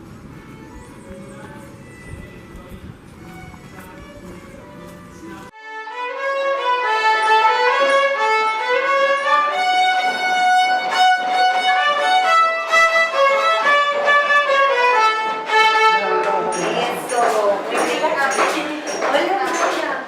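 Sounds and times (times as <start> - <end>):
violin melody: 0.0 - 19.8.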